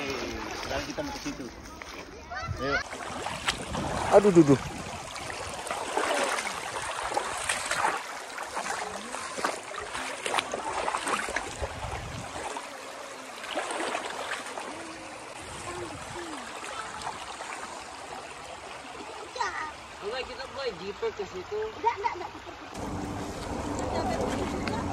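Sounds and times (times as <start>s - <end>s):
river running over stones: 0.0s - 24.9s
water splashing: 0.0s - 24.9s.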